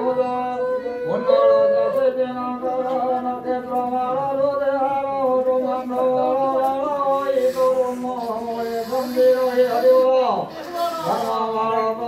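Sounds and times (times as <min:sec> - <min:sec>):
man chanting into a microphone: 0:00.0 - 0:12.0.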